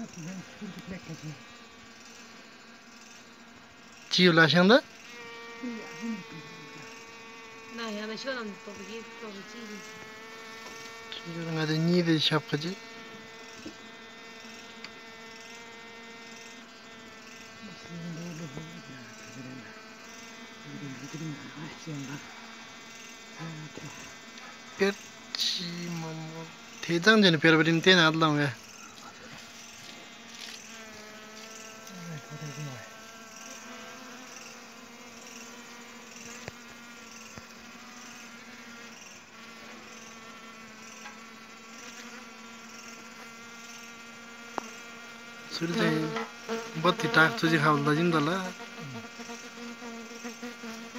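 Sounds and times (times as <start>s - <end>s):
honey bees buzzing: 0.0s - 50.9s.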